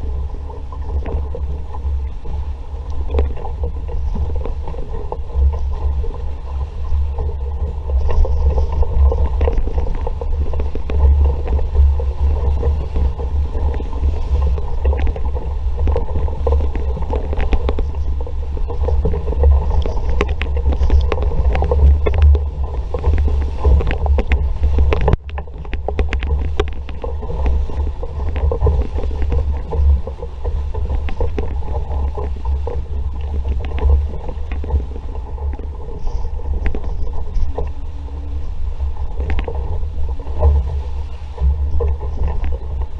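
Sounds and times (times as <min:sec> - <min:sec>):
water rushing past hull: 0:00.0 - 0:42.9
water splashes and slaps: 0:00.0 - 0:42.9
wind buffeting microphone: 0:00.0 - 0:42.9.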